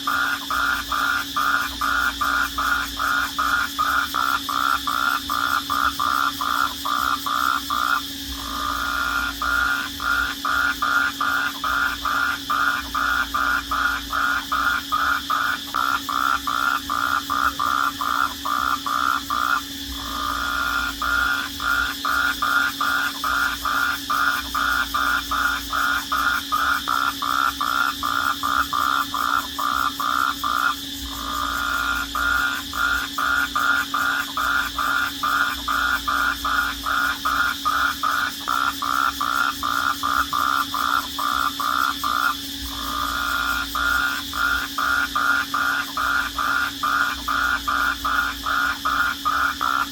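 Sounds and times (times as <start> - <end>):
crickets trilling: 0.0 - 49.9.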